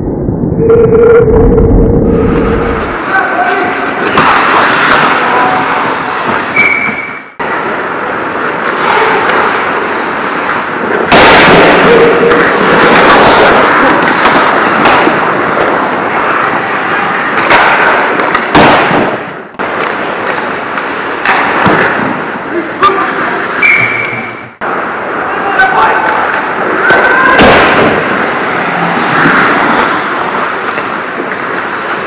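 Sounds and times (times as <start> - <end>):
skates scraping ice: 2.8 - 32.0
sticks and puck clattering: 3.0 - 7.2, 8.2 - 24.4, 25.1 - 32.0.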